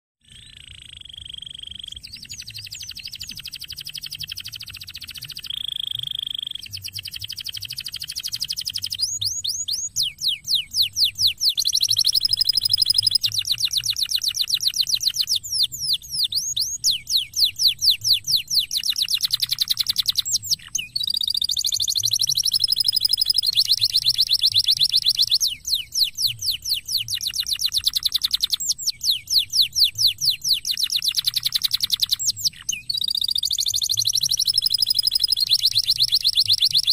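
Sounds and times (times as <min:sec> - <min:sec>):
canary singing trills: 0:00.2 - 0:36.9.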